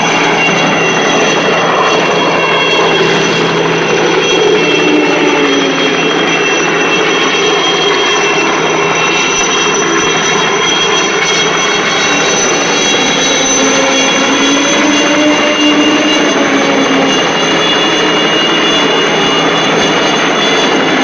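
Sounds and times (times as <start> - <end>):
helicopter engine running: 0.0 - 21.0
high whine: 0.0 - 21.0.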